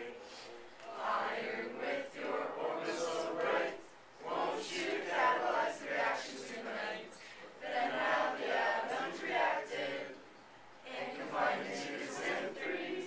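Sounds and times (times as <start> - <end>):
group of voices singing in unison: 0.9 - 13.0.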